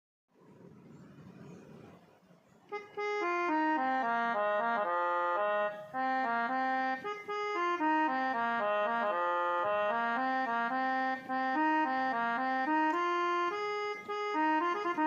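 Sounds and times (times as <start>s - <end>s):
electronic keyboard harmonium melody: 2.6s - 15.0s.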